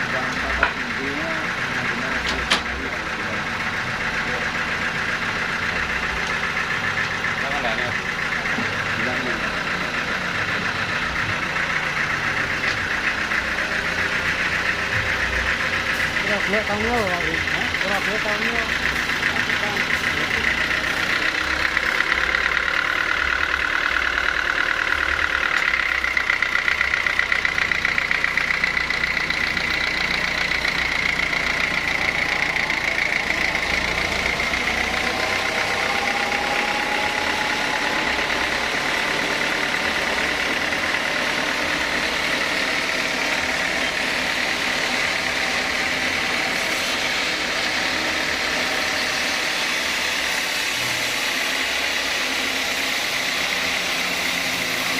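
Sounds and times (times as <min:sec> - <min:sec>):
low engine drone: 0:00.0 - 0:54.9
saw high whine: 0:00.0 - 0:54.9.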